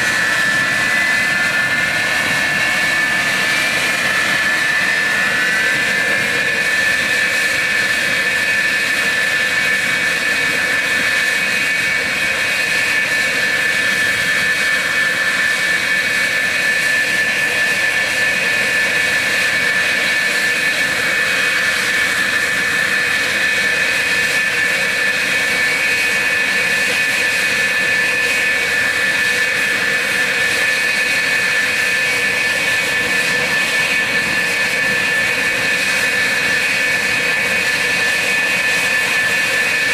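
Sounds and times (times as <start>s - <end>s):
jet engines idling whine: 0.0s - 39.9s.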